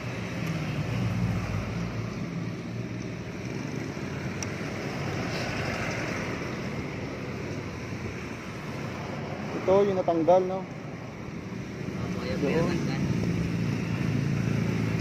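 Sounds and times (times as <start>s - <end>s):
passing traffic: 0.0s - 15.0s
wind: 0.0s - 15.0s.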